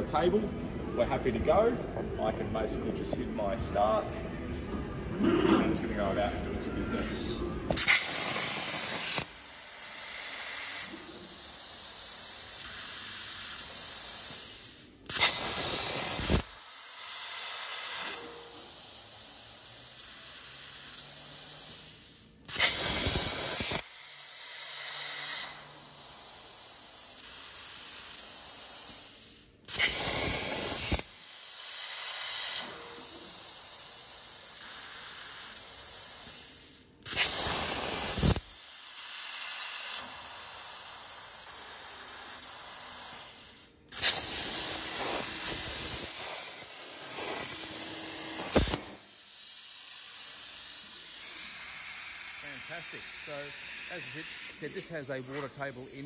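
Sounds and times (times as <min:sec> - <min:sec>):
plasma cutter hissing: 0:07.7 - 0:56.0.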